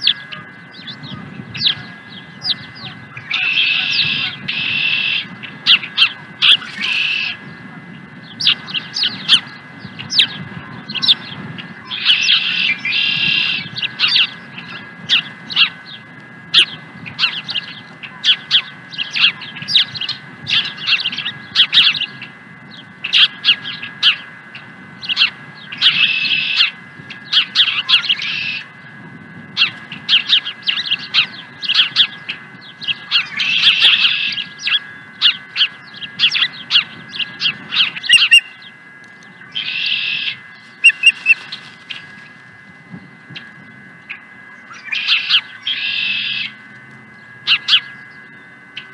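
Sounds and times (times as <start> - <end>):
high whistled bird chirps: 0.0 - 28.8, 29.6 - 48.9
harsh bird calls: 0.0 - 48.9.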